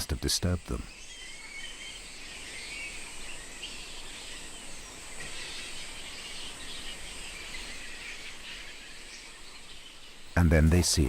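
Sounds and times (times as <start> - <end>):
high insect hum: 0.0 - 11.0.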